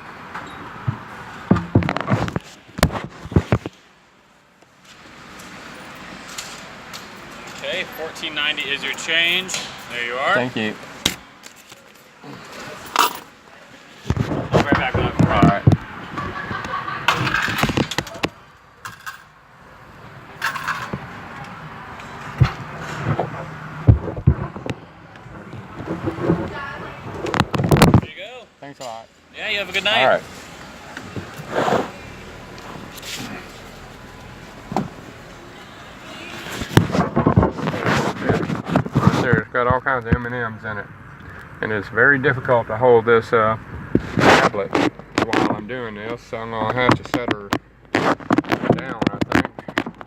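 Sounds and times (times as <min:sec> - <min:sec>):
low background noise: 0:00.0 - 0:50.0.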